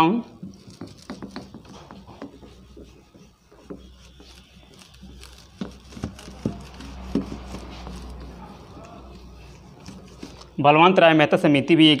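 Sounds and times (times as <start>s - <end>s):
duster wiping whiteboard: 0.3s - 10.6s.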